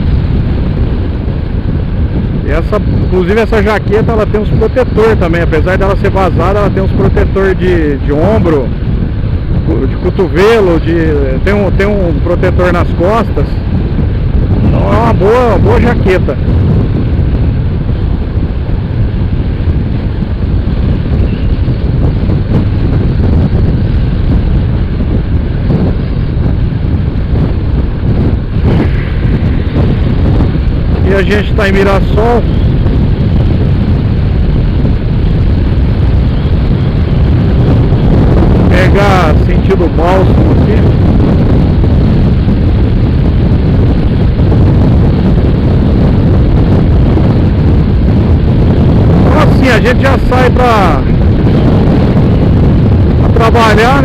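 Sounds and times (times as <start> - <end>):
road noise: 0.0 - 54.0
wind rushing over microphone: 0.0 - 54.0.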